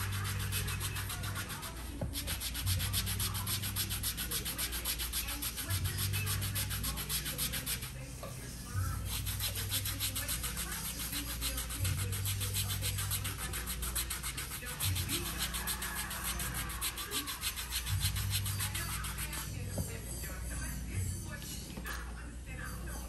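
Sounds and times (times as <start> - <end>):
gloved hands rubbing skin: 0.0 - 8.2, 9.0 - 19.8.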